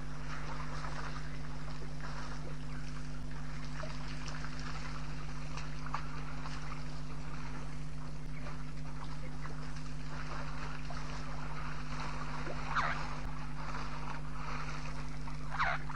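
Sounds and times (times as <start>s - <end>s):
low hum: 0.0s - 15.9s
water sloshing and splashing: 0.0s - 15.9s.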